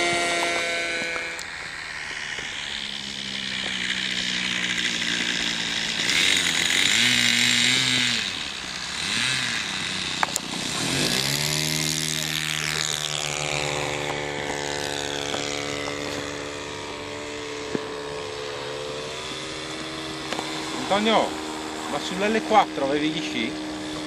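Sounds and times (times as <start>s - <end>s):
model plane engine running: 0.0s - 24.0s.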